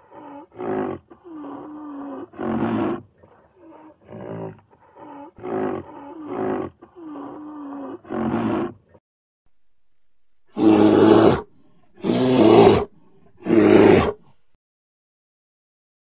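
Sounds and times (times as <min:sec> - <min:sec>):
long drawn-out animal call: 0:00.0 - 0:09.0, 0:10.5 - 0:14.4
wild animal roars and growls: 0:00.0 - 0:09.0, 0:10.5 - 0:14.4.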